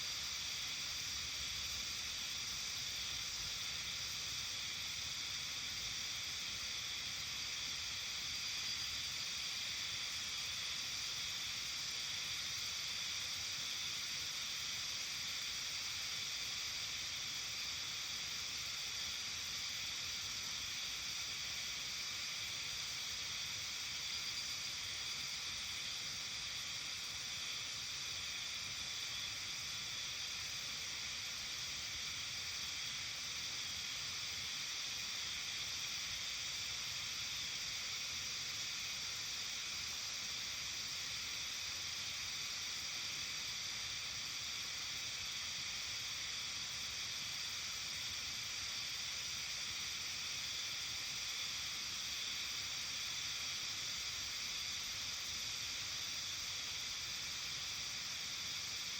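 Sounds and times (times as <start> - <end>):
even high hiss: 0.0 - 58.9.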